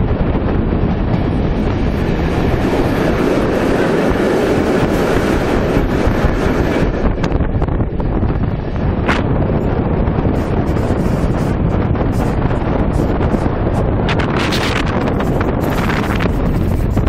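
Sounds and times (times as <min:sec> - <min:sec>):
train running rumble: 0:00.0 - 0:17.0
wind rushing over microphone: 0:00.0 - 0:17.0.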